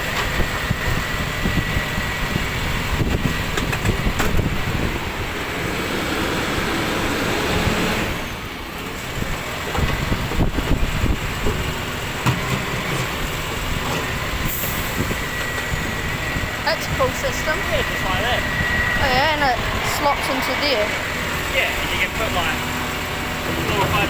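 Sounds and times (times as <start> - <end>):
rubbish truck running: 0.0 - 24.0.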